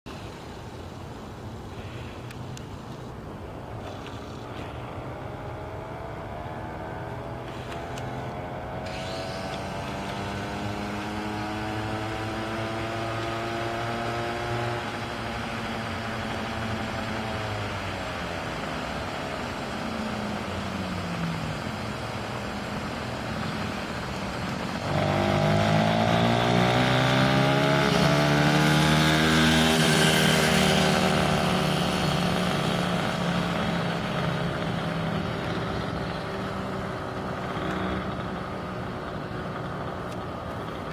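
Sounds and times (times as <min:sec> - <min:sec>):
small motorcycle engine: 0:03.6 - 0:40.9.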